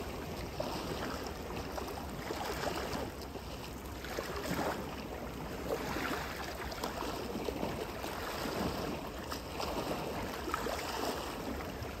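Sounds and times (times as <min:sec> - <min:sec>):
seawater lapping: 0:00.0 - 0:12.0.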